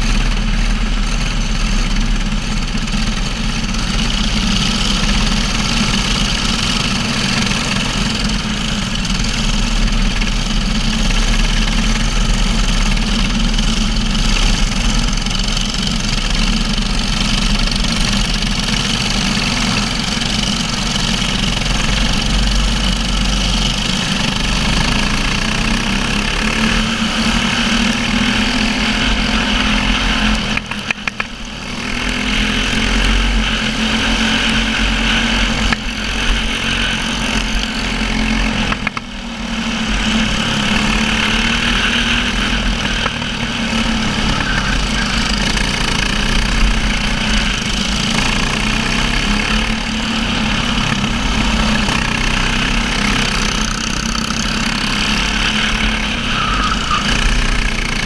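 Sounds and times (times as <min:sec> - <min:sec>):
kart engine racing: 0:00.0 - 0:58.0
other kart engines: 0:00.0 - 0:58.0.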